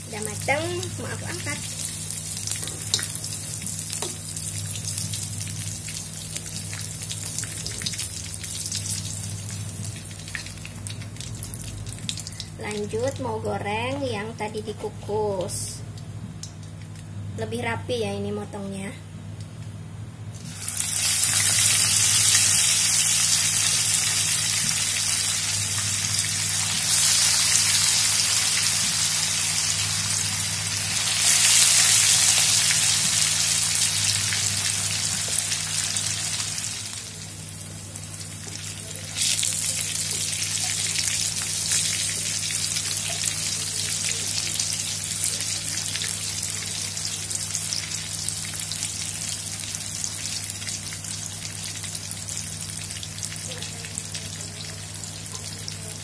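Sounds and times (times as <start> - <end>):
food sizzling in hot oil: 0.0 - 13.0, 20.4 - 56.0
low steady hum: 0.0 - 56.0.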